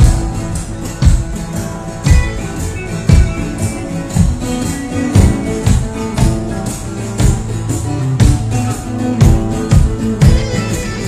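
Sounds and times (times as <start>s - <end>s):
acoustic guitar: 0.0s - 11.0s
percussion steady beat: 0.0s - 11.0s.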